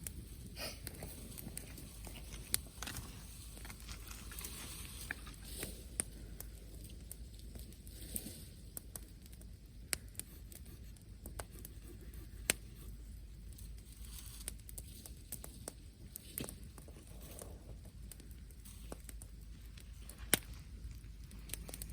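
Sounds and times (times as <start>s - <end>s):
faint steady hiss: 0.0s - 21.9s
wood fire crackling and popping: 0.0s - 21.9s.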